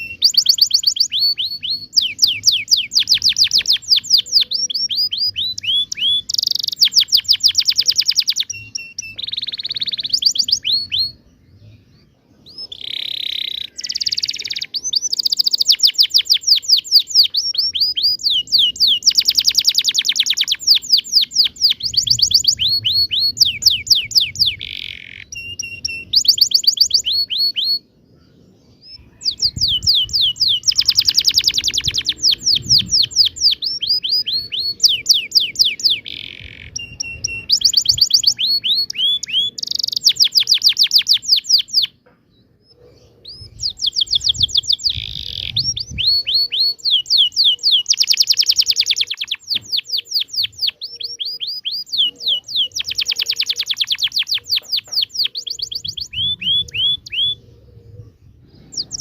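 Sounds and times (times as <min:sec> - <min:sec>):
canary singing with rolling trills: 0:00.0 - 0:59.0.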